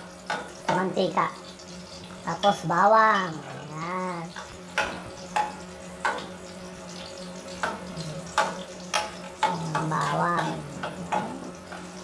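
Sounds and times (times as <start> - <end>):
garlic sizzling in hot oil: 0.0 - 12.0
low steady hum: 1.2 - 12.0.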